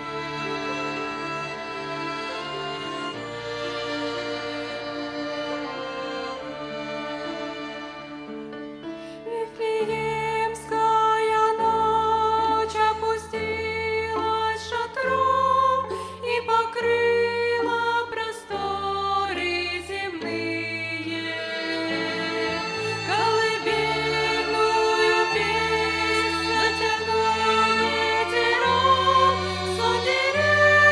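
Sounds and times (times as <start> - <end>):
violin ensemble playing: 0.0 - 30.9.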